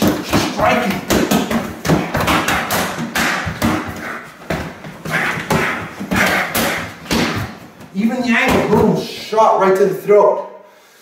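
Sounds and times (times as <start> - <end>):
sharp thumps on training dummy: 0.0 - 8.9.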